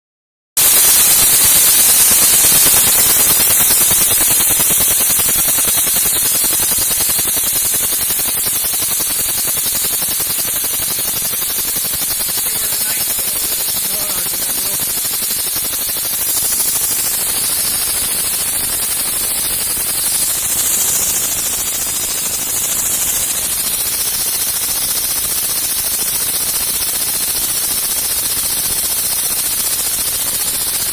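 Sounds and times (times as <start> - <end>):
hiss of escaping air: 0.6 - 26.6
air engine exhaust puffs: 0.6 - 30.9.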